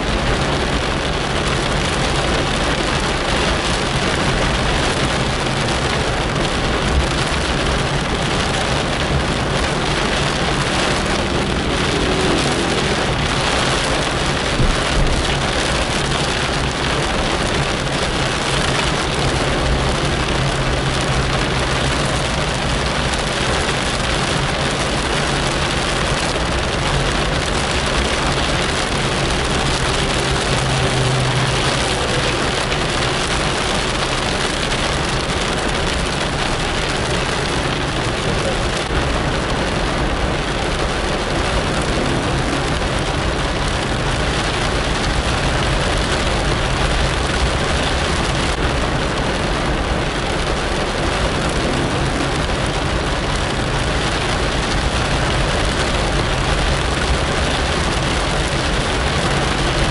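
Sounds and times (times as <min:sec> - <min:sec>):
car and tyres humming on wet road: 0:00.0 - 0:59.9
rain falling on a car: 0:00.0 - 0:59.9.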